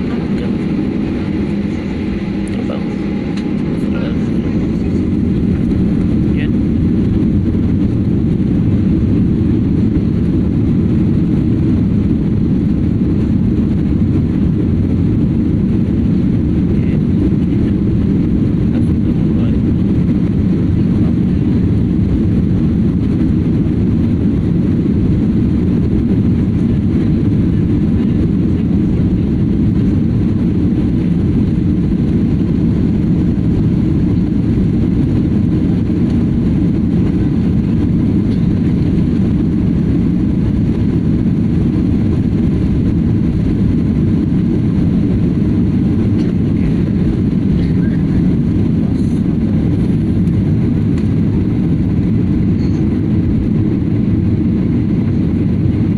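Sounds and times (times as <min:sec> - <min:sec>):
airplane drone: 0:00.0 - 0:55.9.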